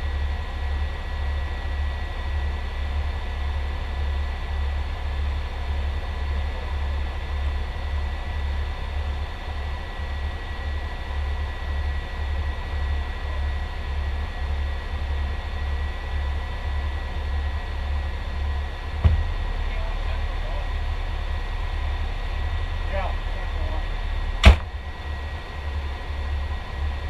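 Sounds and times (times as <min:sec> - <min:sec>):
diesel engine idling: 0:00.0 - 0:27.0
steady high whine: 0:00.0 - 0:27.0.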